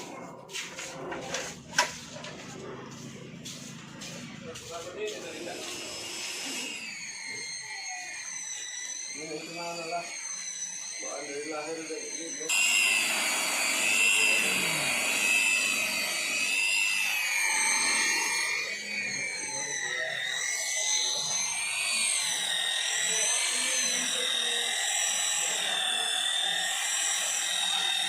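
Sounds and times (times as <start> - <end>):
polishing machine whine: 0.0 - 28.0.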